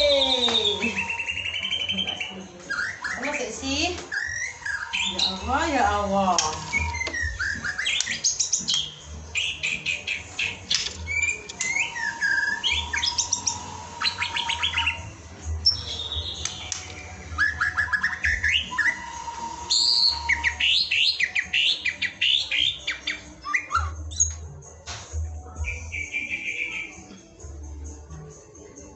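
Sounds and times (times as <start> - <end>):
bird singing whistles and trills: 0.0 - 24.4, 25.6 - 27.1.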